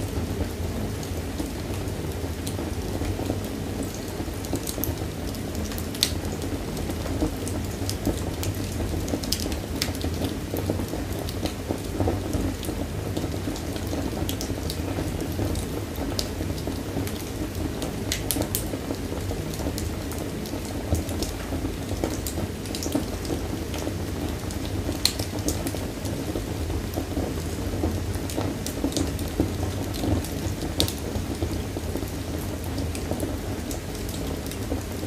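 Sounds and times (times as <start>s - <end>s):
fire crackling in a fireplace: 0.0s - 35.0s.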